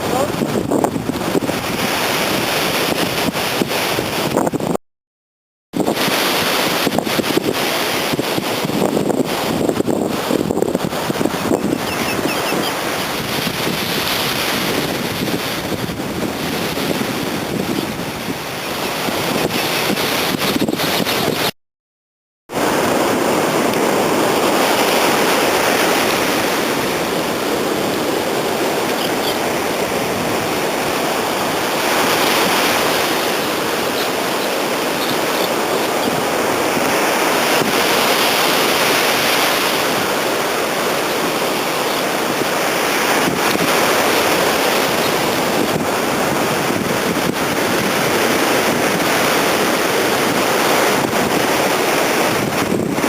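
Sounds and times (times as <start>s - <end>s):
sea surf rushing: 0.0s - 4.8s, 5.8s - 21.6s, 22.5s - 53.0s
strong wind on microphone: 0.0s - 4.8s, 5.7s - 21.6s, 22.5s - 53.0s.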